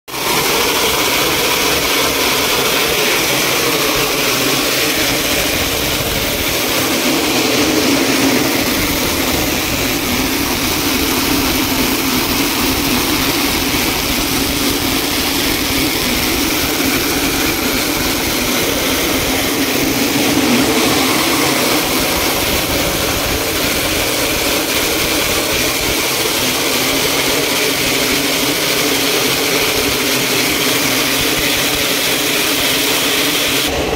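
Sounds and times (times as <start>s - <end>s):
machine hiss: 0.1s - 33.9s
machine humming and whirring: 0.1s - 33.9s.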